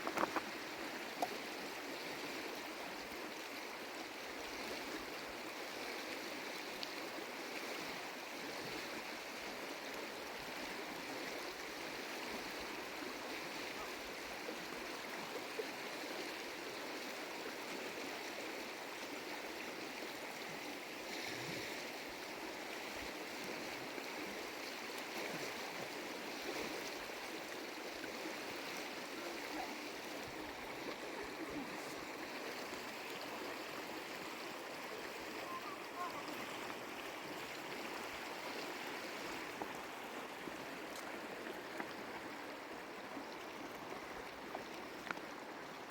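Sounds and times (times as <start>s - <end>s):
stream water flowing: 0.0s - 45.9s.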